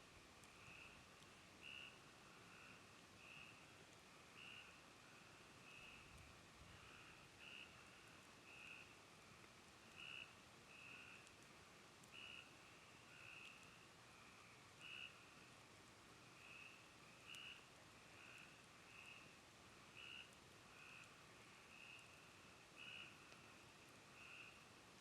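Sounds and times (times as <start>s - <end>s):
frogs calling faintly: 0.2s - 25.0s.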